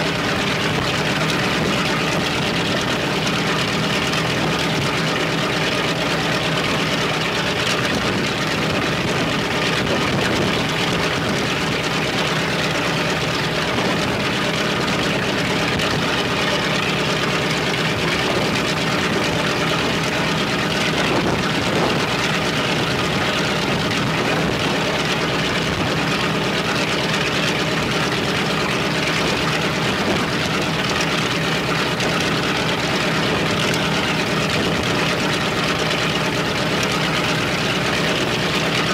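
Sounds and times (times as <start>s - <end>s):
radial piston engine running: 0.0s - 38.9s.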